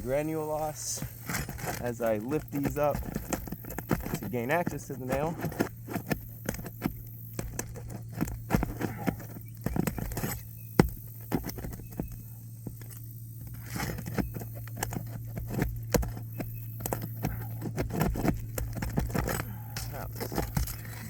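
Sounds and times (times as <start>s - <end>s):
metal tools scraping shingles: 0.0s - 21.0s
steady low hum: 0.0s - 21.0s.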